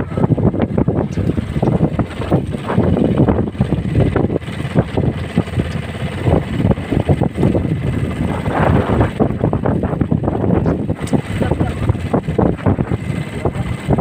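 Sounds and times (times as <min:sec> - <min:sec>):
choppy sea washing: 0:00.0 - 0:14.0
wind buffeting microphone: 0:00.0 - 0:14.0.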